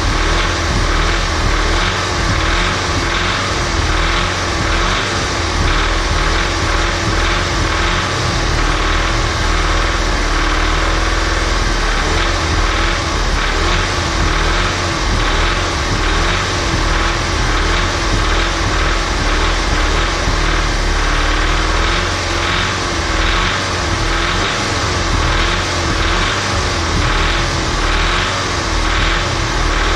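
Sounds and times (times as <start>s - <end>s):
car engine idling: 0.0s - 29.9s
rhythmic engine clatter: 0.0s - 29.9s.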